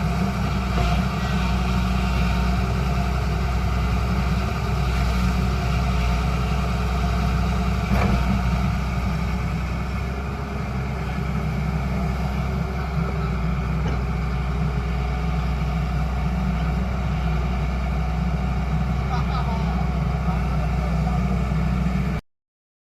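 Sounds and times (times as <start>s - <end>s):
excavator diesel engine running: 0.0s - 22.2s.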